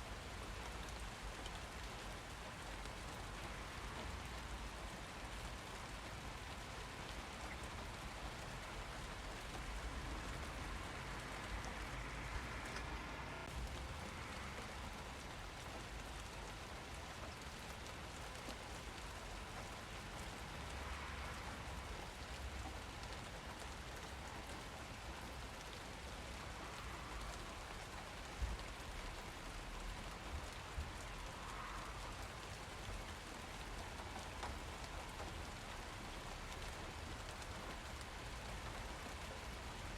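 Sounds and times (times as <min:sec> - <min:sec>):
steady rain: 0:00.0 - 0:39.9
raindrop ticks: 0:00.1 - 0:39.9.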